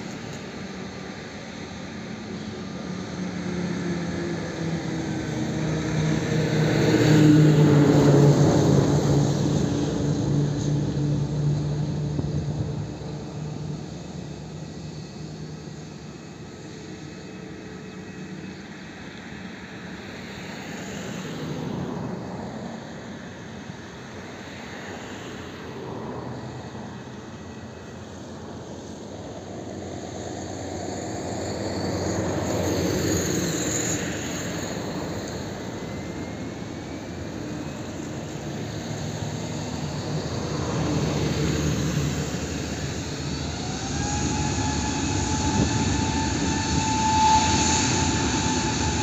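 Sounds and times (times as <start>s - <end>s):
jet engines taxiing past: 0.0s - 49.0s.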